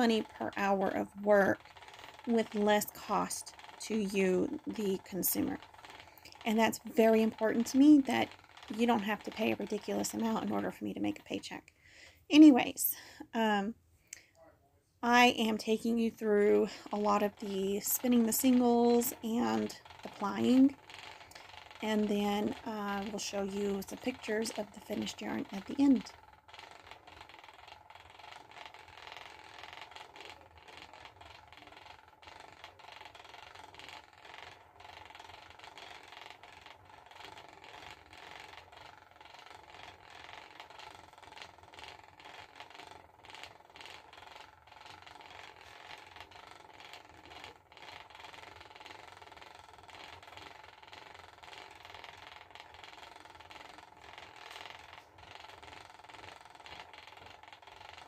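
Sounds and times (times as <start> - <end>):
spinning wheel rattling: 0.0 - 14.3, 15.0 - 58.0.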